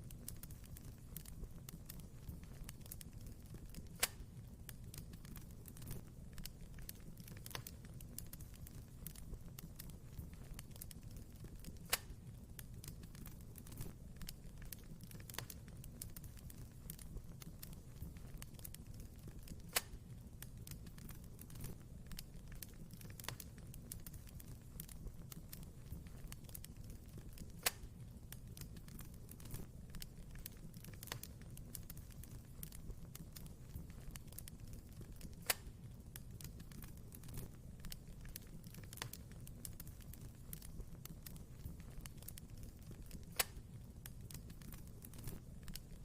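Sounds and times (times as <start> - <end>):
fire popping: 0.0 - 46.0
wood fire crackling: 0.0 - 46.0.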